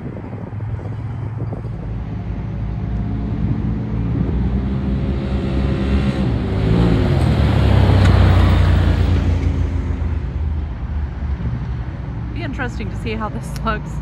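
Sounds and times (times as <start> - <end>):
off-road vehicles driving past: 0.0 - 14.0.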